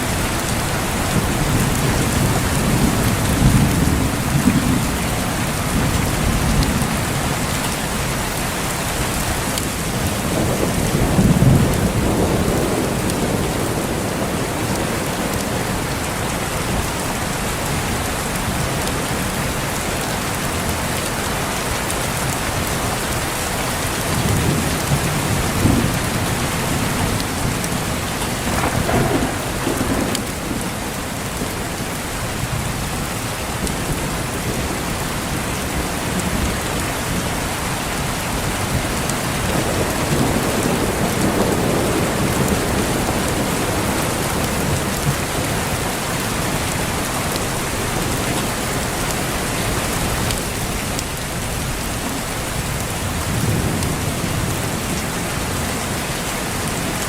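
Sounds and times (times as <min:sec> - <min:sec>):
thunder rumbling: 0:00.0 - 0:17.8, 0:23.6 - 0:57.0
heavy rain: 0:00.0 - 0:57.0.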